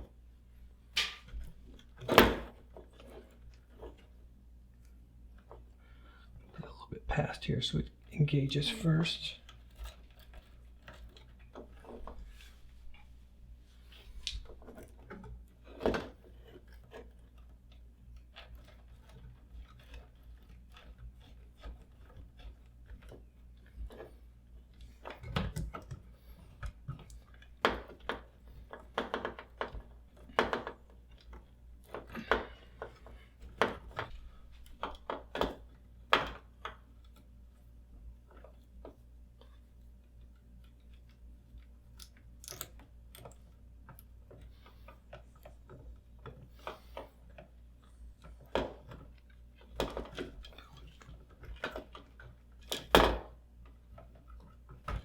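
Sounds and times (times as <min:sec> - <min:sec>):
electrical wires clicking and scraping: 0:00.9 - 0:55.0.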